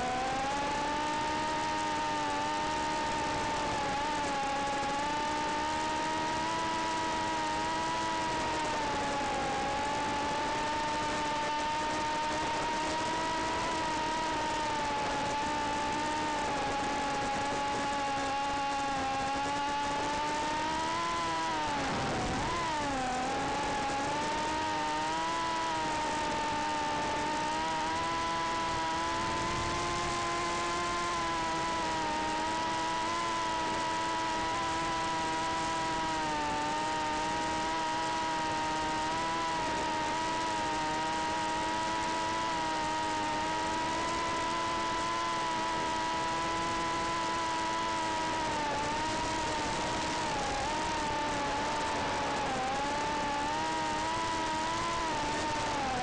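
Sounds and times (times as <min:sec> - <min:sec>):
drone motors whining: 0:00.0 - 0:56.0.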